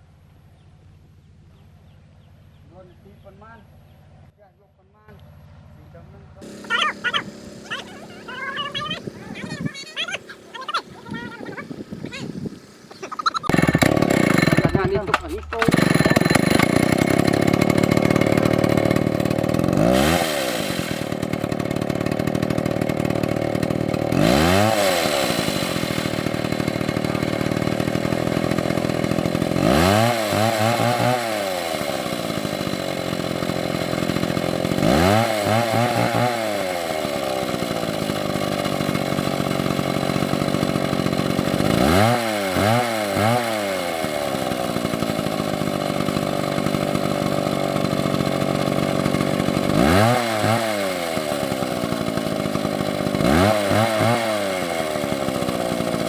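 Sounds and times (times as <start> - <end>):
chainsaw revving: 6.4 - 56.0.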